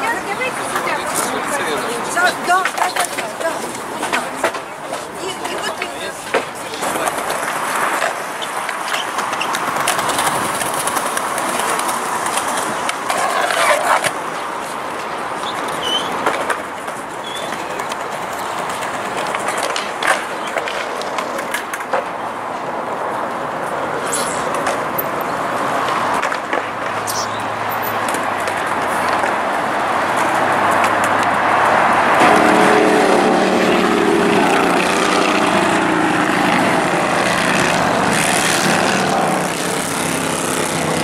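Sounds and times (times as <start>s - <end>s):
traffic: 0.0s - 41.0s.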